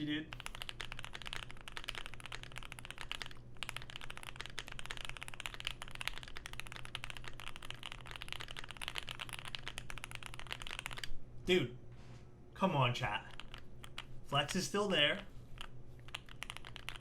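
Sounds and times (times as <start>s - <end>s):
fast mechanical keyboard typing: 0.3s - 11.1s, 13.1s - 17.0s.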